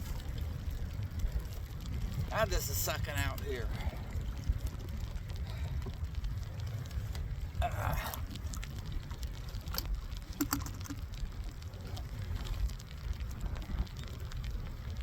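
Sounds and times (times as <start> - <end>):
raindrops ticking: 0.0 - 15.0
wind buffeting microphone: 0.0 - 15.0.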